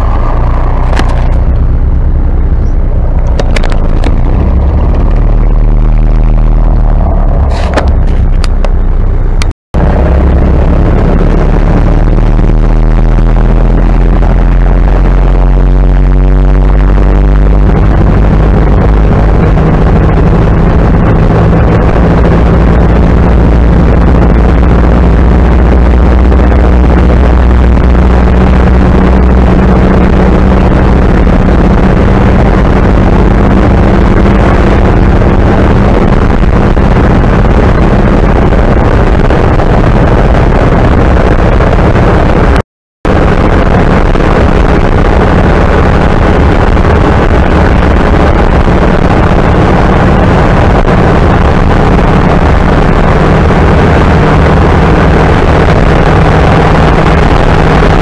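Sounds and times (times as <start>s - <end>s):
car engine running from inside cab: 0.0s - 58.0s.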